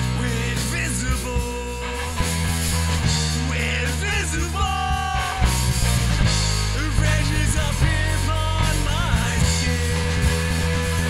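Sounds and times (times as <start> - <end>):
drum kit: 0.0 - 11.0
electric bass: 0.0 - 11.0
electric guitar: 0.0 - 11.0.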